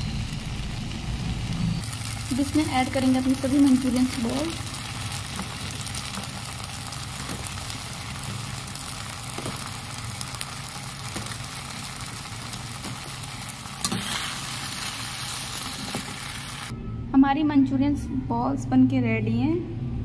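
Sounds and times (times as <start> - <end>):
sauce bubbling and sizzling: 0.0 - 16.7.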